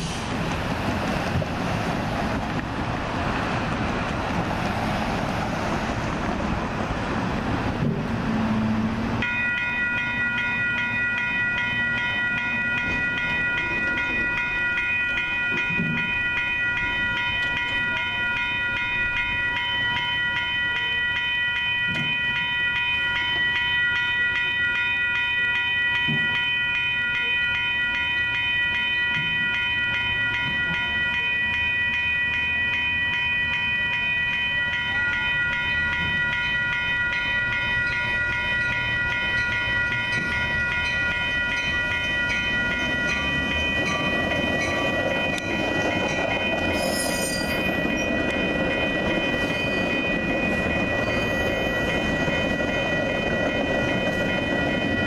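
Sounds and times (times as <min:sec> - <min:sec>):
railroad crossing warning bell: 0:00.0 - 0:55.0.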